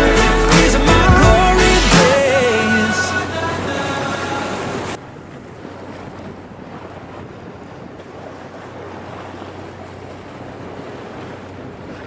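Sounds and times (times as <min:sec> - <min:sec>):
waves washing in: 0:00.0 - 0:12.0.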